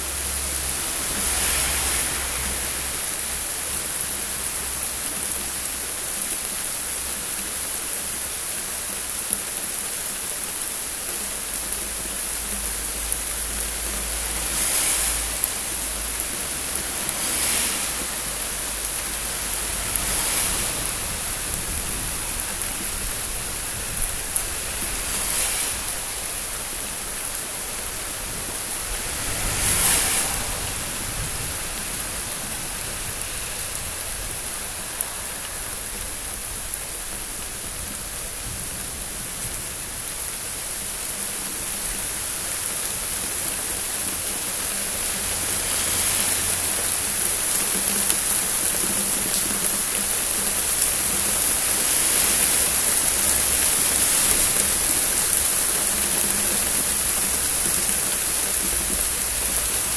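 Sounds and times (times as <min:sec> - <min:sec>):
thunderstorm rain falling: 0:00.0 - 0:59.9.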